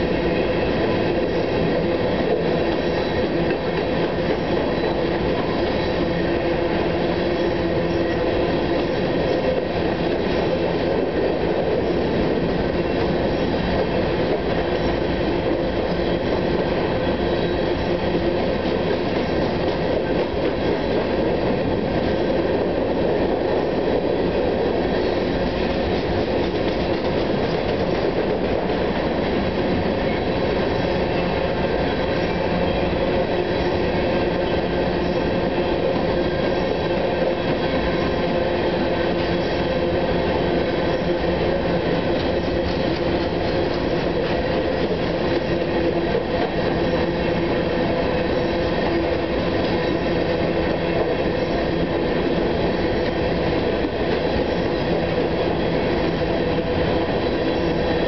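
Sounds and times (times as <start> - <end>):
freight train cars rumbling on rails: 0.0 - 58.0.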